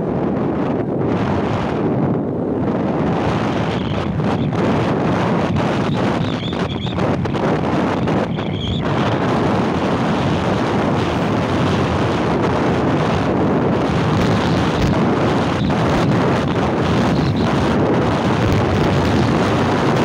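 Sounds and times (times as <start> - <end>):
motorbike road noise: 0.0 - 20.0
wind buffeting microphone: 0.0 - 20.0.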